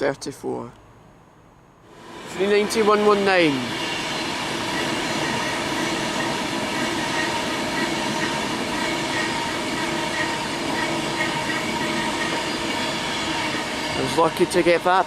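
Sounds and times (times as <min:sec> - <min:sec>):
faint steady tones: 0:01.8 - 0:15.0
train wheels on rail: 0:01.8 - 0:15.0.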